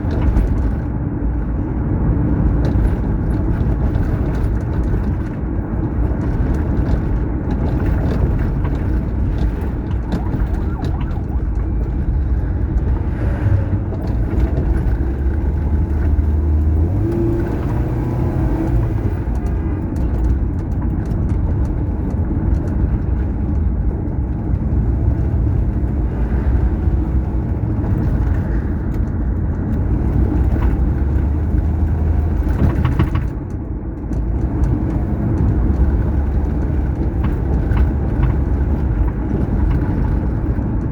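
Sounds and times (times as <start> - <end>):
vehicle road noise rumble: 0.0 - 40.9.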